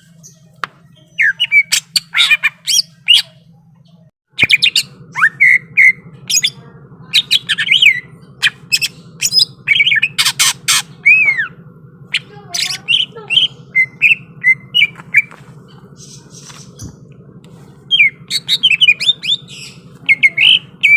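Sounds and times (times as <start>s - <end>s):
faint low hum: 0.0s - 20.9s.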